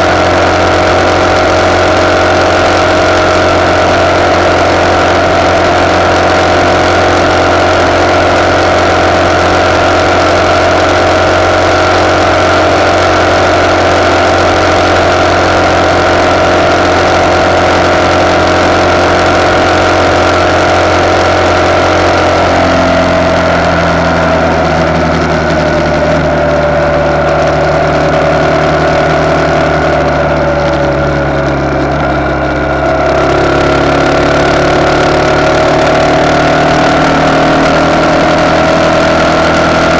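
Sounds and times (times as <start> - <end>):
single-cylinder motorcycle engine: 0.0 - 39.9.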